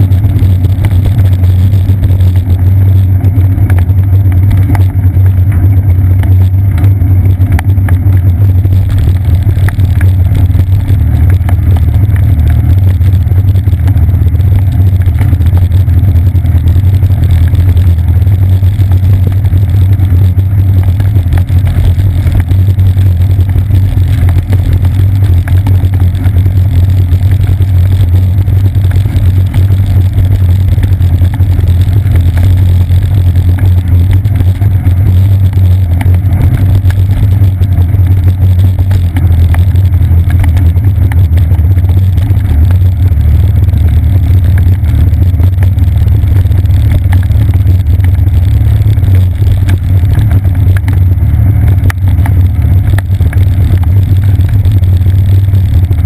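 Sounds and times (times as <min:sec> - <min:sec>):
bicycle ride vibration: 0:00.0 - 0:56.0
wind rumble: 0:00.0 - 0:56.0.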